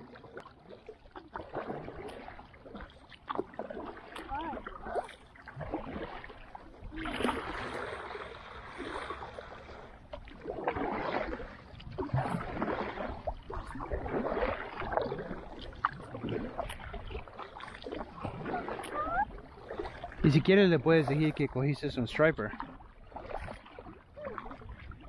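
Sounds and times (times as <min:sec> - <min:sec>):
kayak paddle splashing in water: 0:00.0 - 0:25.0.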